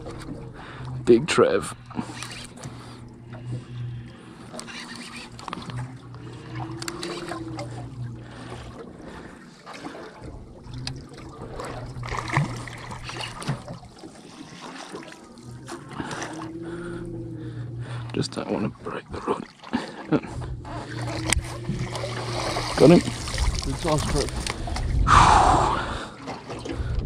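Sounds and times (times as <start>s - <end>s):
low hum: 0.0s - 14.2s, 15.0s - 19.5s, 20.1s - 27.0s
water sloshing against boat hull: 0.0s - 27.0s.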